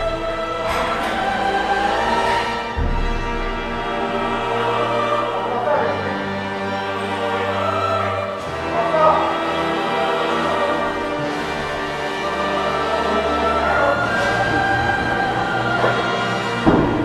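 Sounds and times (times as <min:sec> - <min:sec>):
orchestral music with choir: 0:00.0 - 0:17.0.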